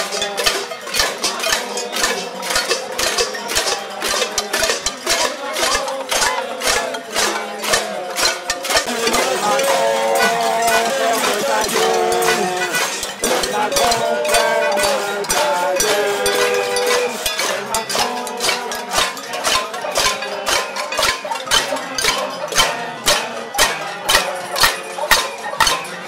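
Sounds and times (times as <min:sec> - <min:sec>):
crowd banging pots and pans: 0:00.0 - 0:26.0.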